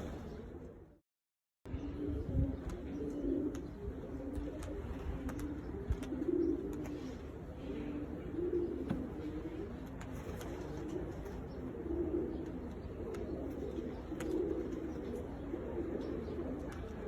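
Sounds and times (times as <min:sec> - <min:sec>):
pigeons cooing: 0:00.0 - 0:01.0, 0:01.7 - 0:17.0.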